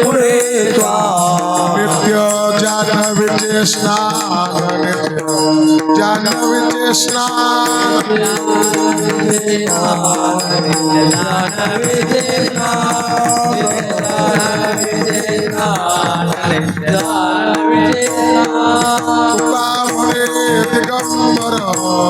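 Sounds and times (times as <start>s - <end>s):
devotional singing: 0.0s - 22.0s.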